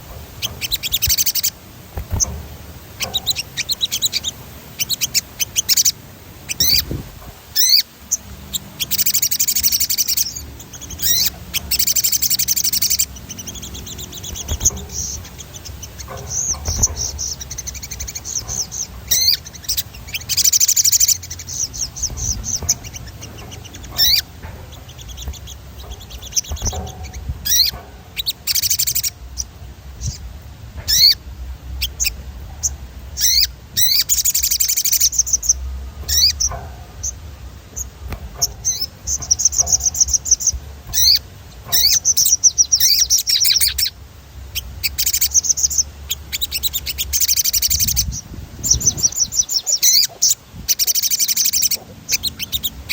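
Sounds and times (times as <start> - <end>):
bird chirping trills: 0.0 - 52.9
steady low hum: 0.0 - 52.9.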